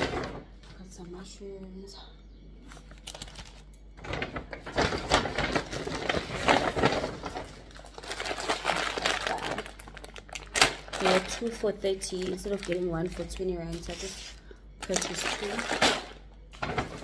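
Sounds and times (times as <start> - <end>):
grocery bags rustling and crinkling: 2.6 - 17.0.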